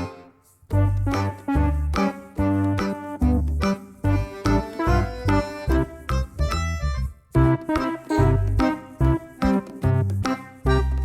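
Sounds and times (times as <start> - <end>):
keyboard tune with bass beat: 0.0 - 11.0.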